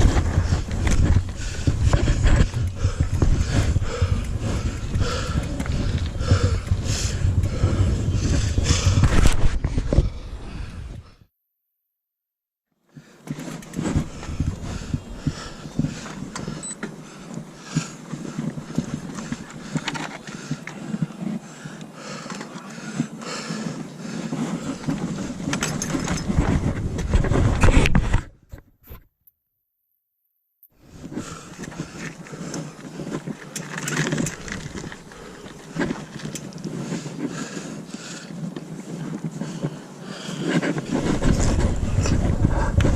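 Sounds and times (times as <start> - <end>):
mountain bike rattling on trail: 0.0 - 10.1, 13.0 - 28.2, 30.9 - 42.9.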